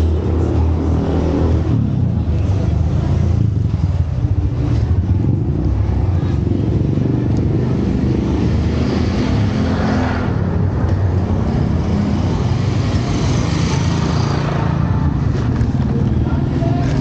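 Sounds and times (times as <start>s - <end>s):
vehicle engines running: 0.0s - 17.0s
vehicles passing by: 0.0s - 17.0s.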